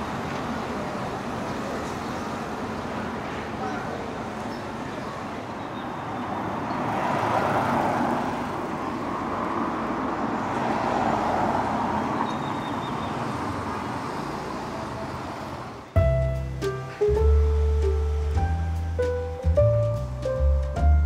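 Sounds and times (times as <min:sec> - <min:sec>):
cars passing: 0:00.0 - 0:20.7.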